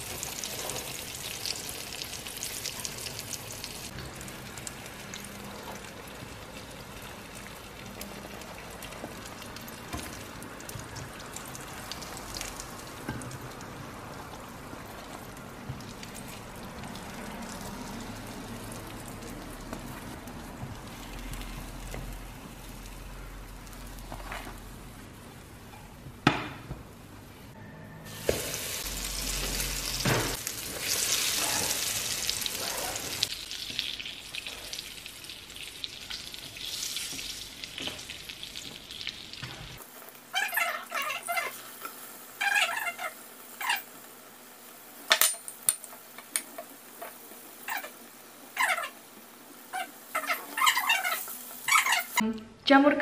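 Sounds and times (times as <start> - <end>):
food sizzling in oil: 0.0 - 25.2, 28.1 - 52.2.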